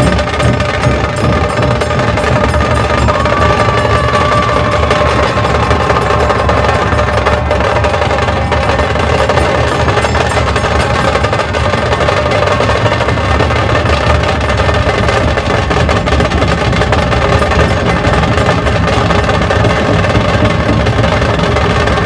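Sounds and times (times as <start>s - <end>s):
deep drum beats: 0.0s - 22.0s
rapid sharp drum strokes: 0.0s - 22.0s.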